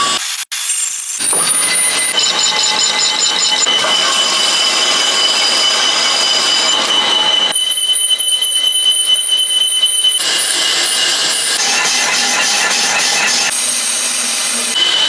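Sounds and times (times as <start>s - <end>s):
power tool screeching on metal: 0.0s - 15.0s.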